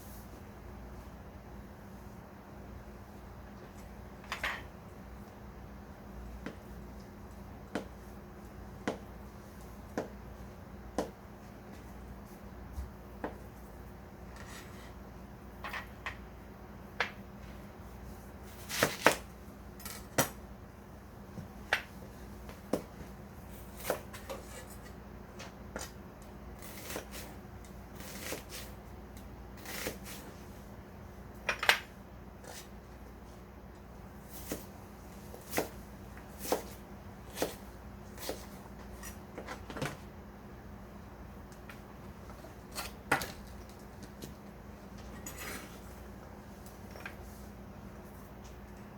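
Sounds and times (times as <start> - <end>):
low electrical hum: 0.0 - 48.9.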